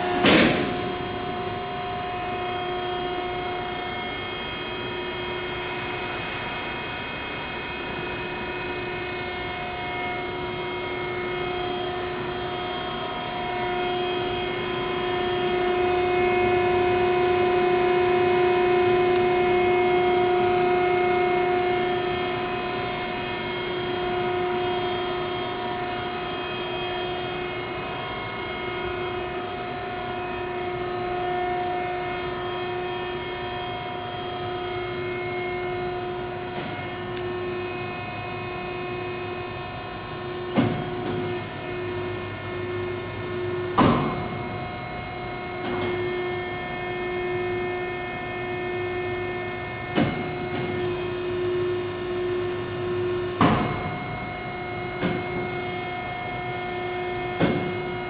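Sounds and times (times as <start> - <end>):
hydraulic motor and pump whine: 0.0 - 58.0.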